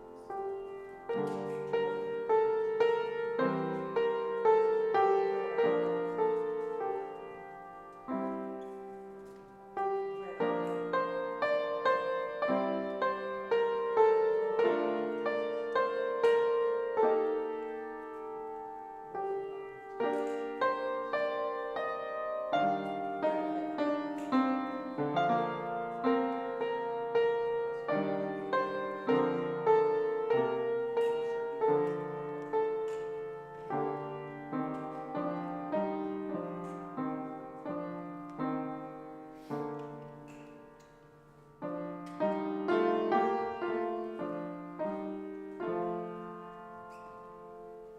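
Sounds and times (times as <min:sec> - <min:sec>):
slow gentle piano piece: 0:00.0 - 0:47.9.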